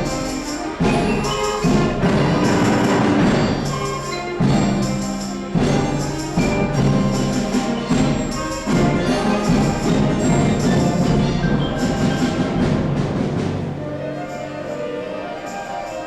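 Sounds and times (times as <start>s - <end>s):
orchestral chords: 0.0s - 16.0s.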